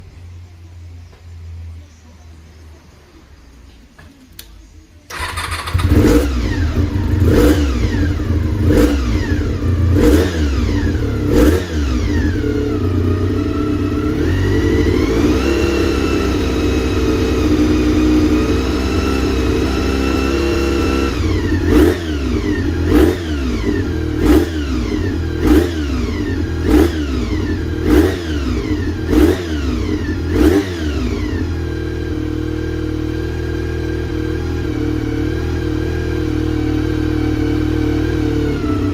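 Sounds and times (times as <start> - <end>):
motorcycle engine revving: 5.1 - 38.9.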